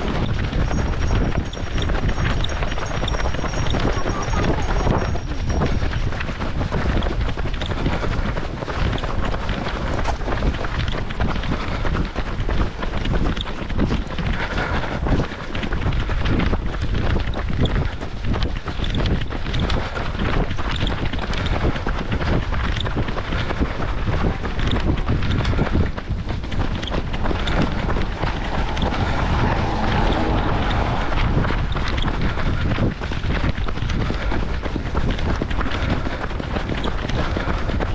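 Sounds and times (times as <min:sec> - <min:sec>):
wind buffeting microphone: 0:00.0 - 0:37.9
footsteps on wet asphalt: 0:06.2 - 0:37.9.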